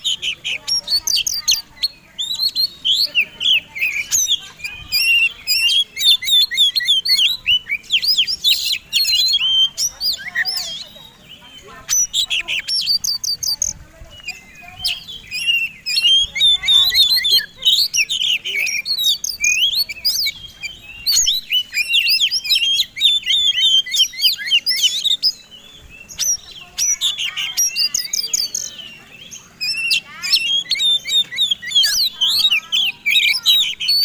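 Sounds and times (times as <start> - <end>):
bird singing whistles and trills: 0.0 - 34.0.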